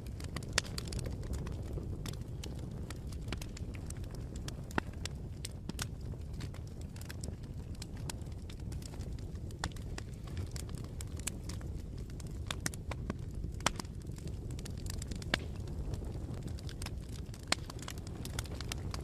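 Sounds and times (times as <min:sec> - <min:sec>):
burning wood crackling and popping: 0:00.0 - 0:19.0
campfire flames rumbling: 0:00.0 - 0:19.0.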